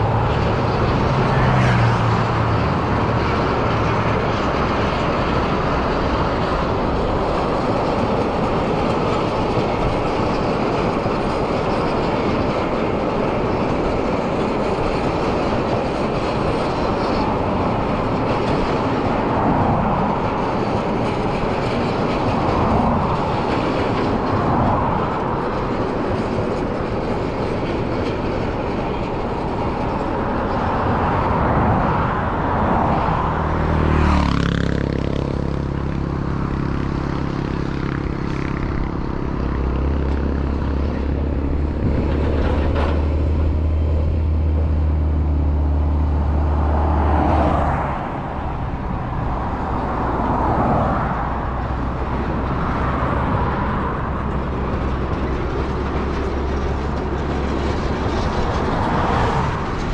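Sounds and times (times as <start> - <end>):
train rolling past: 0.0 - 59.9.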